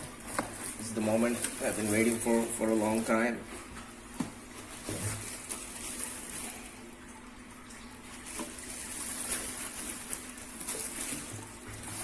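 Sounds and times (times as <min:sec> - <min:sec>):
faint steady hum: 0:00.0 - 0:12.0
plastic wrapping crinkling: 0:00.0 - 0:12.0.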